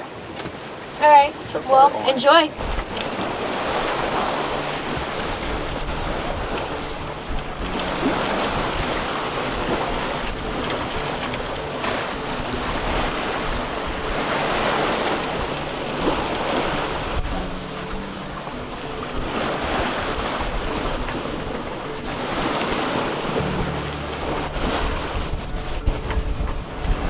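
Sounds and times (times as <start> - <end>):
sea water rushing along hull: 0.0 - 27.0
wind buffeting microphone: 0.0 - 27.0.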